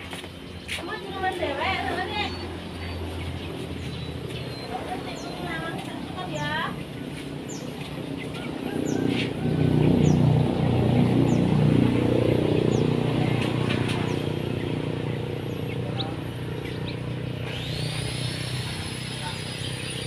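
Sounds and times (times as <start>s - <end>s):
passing vehicle engine hum: 0.0s - 20.0s
small birds chirping: 0.0s - 20.0s.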